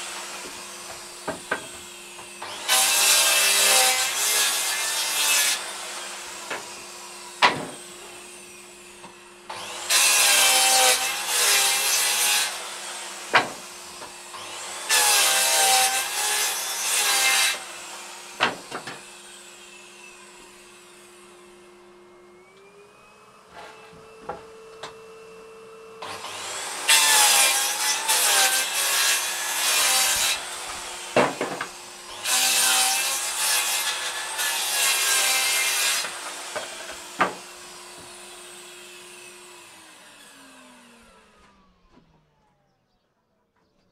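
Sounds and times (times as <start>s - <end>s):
circular saw cutting wood: 0.0s - 42.4s.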